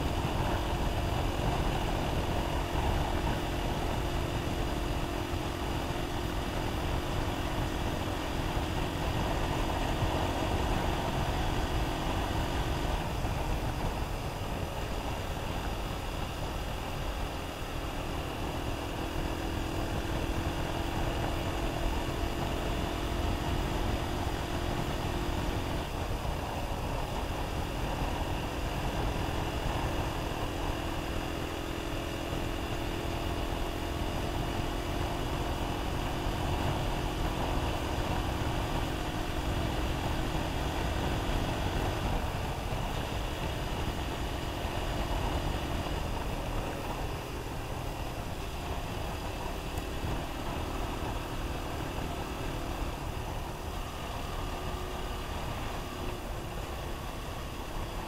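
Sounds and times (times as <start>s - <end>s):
motorcycle engine cruising: 0.0s - 58.0s
wind and road noise rumble: 0.0s - 58.0s.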